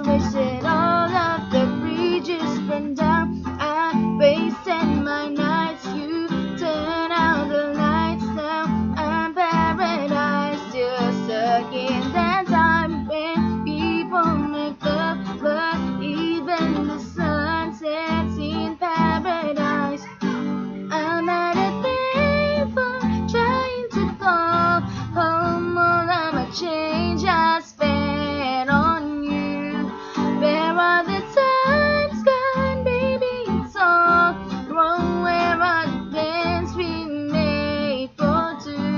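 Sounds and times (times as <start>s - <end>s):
strummed acoustic guitar: 0.0s - 38.9s
woman singing: 0.0s - 38.9s.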